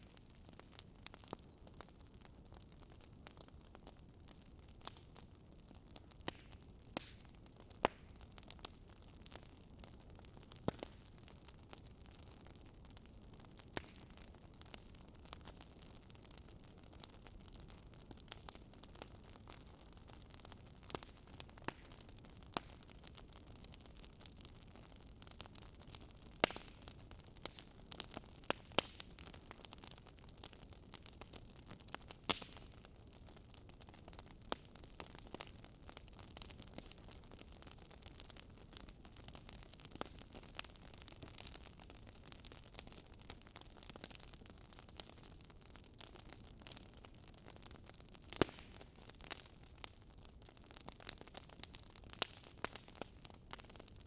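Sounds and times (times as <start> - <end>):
fire crackling pops and snaps: 0.0 - 54.0.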